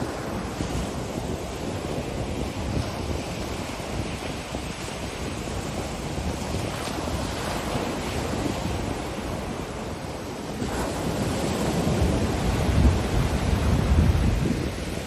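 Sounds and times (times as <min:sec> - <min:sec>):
ocean surf breaking on beach: 0:00.0 - 0:15.0
wind: 0:00.0 - 0:15.0.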